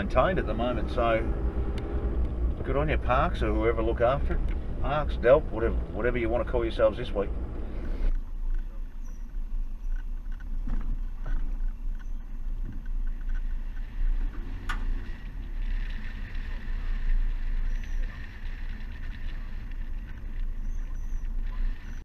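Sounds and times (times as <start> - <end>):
vehicle rumbling on dirt track: 0.0 - 22.0.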